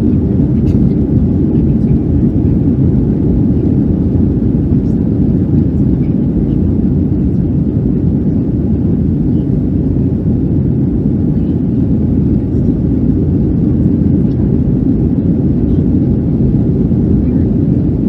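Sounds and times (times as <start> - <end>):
airplane cabin engine noise: 0.0 - 18.0.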